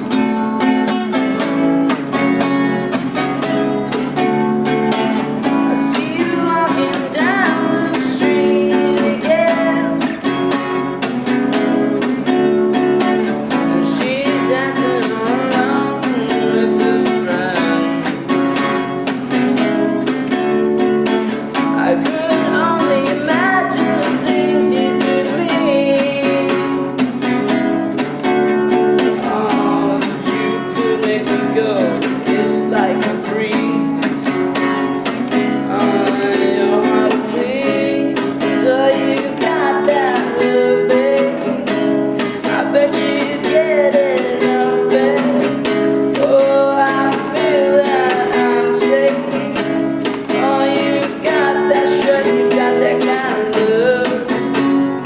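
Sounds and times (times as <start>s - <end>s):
man singing: 0.0s - 3.6s, 4.2s - 10.3s, 13.0s - 19.0s, 21.5s - 27.7s, 28.8s - 55.0s
strummed acoustic guitar: 0.0s - 55.0s.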